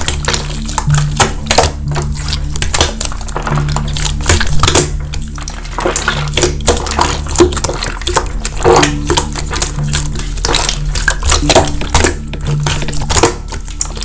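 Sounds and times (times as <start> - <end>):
background music: 0.0 - 14.0
slime clicking and crackling: 0.0 - 14.0.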